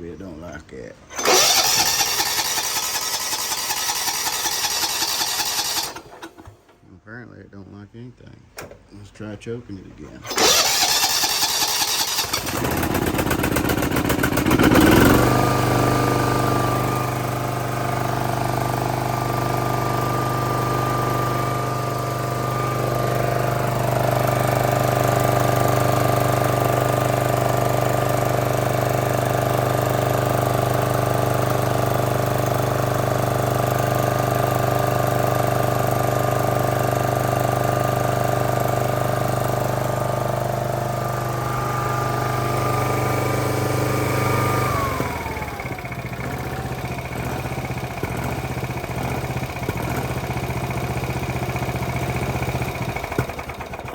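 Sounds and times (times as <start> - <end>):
electric starter cranking engine: 1.0 - 6.8, 10.2 - 53.9
engine running steadily: 1.1 - 6.5, 10.2 - 53.9.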